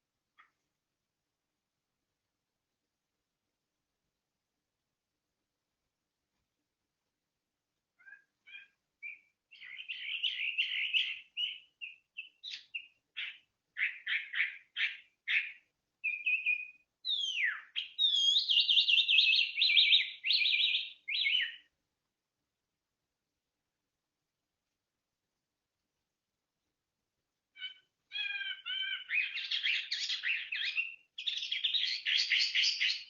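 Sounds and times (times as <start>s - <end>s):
songbird singing chirps and trills: 0.0s - 4.0s, 4.8s - 22.2s, 26.5s - 33.0s.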